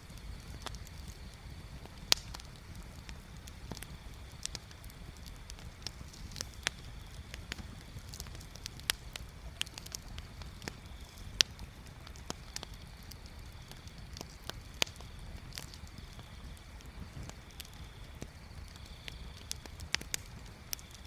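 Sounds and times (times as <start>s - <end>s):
bonfire crackling: 0.0s - 21.0s
sharp pops from burning wood: 0.0s - 21.0s.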